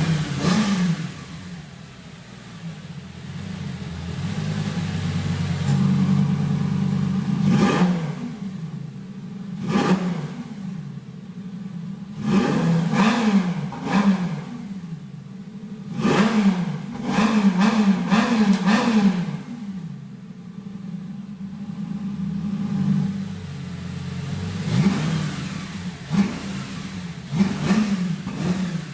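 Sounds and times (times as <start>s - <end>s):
car engine revving from idle: 0.0s - 28.9s.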